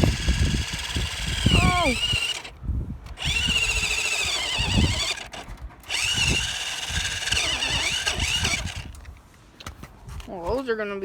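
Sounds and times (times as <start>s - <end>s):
electric toy car motor whining: 0.0s - 9.0s
tyre and chassis rumble: 0.0s - 9.2s.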